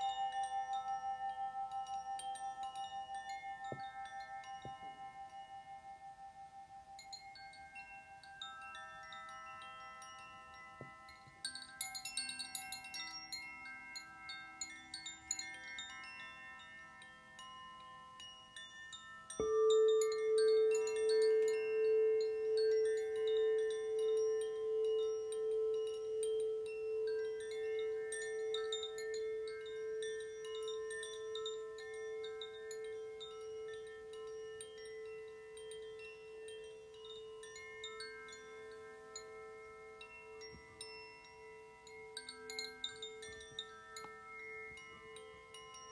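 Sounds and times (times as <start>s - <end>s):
metal chimes ringing: 0.0s - 45.9s
singing bowl low tone: 0.0s - 45.9s.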